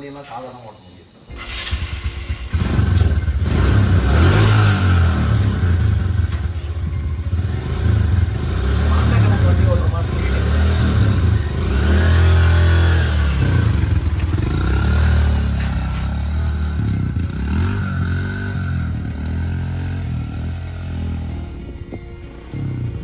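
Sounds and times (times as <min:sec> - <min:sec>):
dirt bike engine revving: 0:01.4 - 0:06.4, 0:07.2 - 0:23.0.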